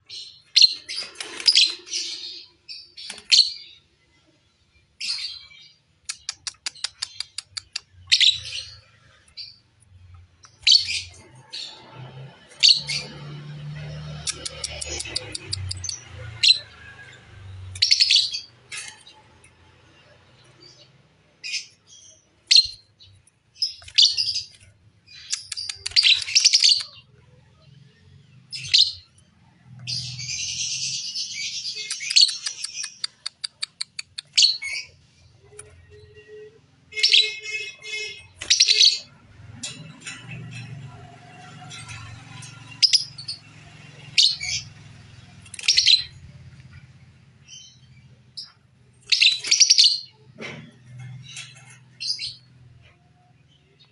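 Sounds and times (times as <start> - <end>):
songbird singing: 4.8 - 50.3.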